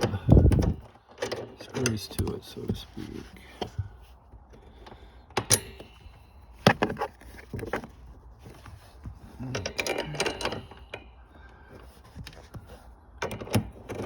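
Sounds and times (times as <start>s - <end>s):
tools and hardware clicking: 0.0s - 2.8s, 3.5s - 14.0s.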